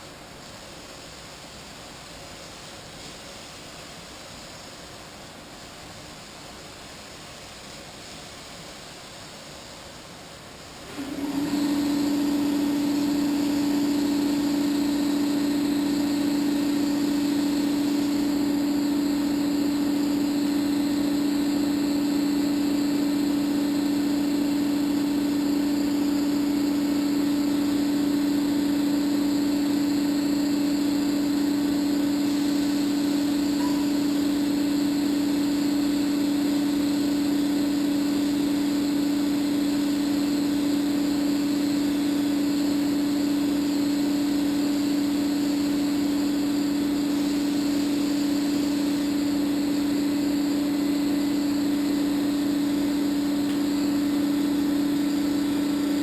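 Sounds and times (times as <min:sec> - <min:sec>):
exhaust fan humming: 0:00.0 - 0:56.0.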